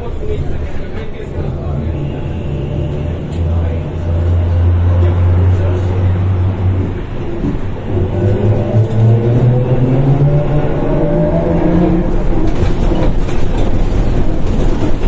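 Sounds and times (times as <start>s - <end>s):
trolleybus electric drive whining: 0.0s - 15.0s.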